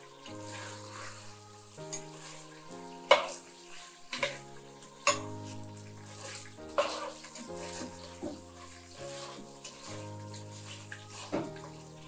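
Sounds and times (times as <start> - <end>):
background music sustained chords: 0.0 - 12.0
meat sizzling in oil: 0.0 - 12.0.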